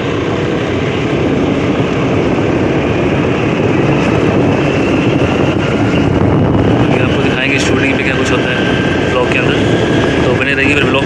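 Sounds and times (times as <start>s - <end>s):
motorbike engine: 0.0s - 11.0s
wind rushing over microphone: 0.0s - 11.0s.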